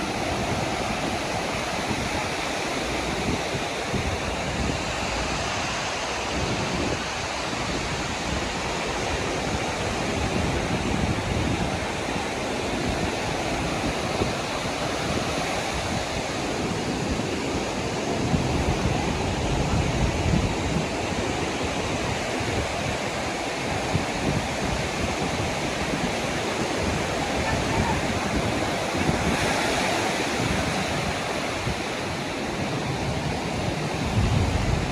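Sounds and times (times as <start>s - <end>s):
sea waves washing onto beach: 0.0s - 34.9s
wind rumbling on microphone: 0.0s - 34.9s.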